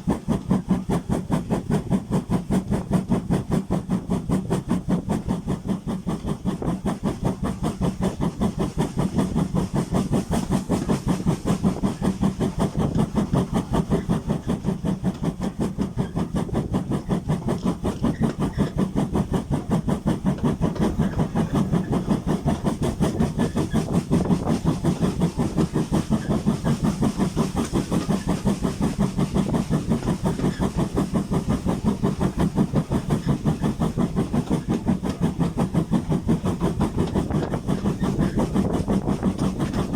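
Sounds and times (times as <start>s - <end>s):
steam hissing: 0.0s - 39.9s
steam locomotive beat: 0.0s - 39.9s.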